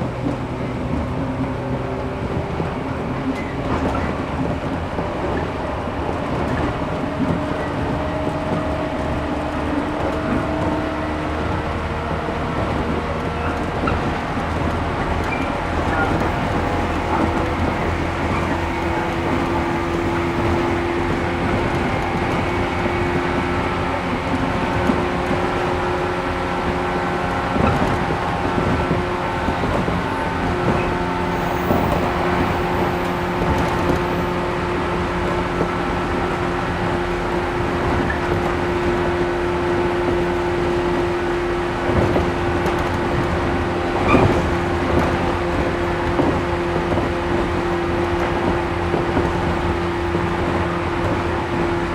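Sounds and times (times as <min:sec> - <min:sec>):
electric train hum: 0:00.0 - 0:51.9
wheel and track noise: 0:00.0 - 0:51.9.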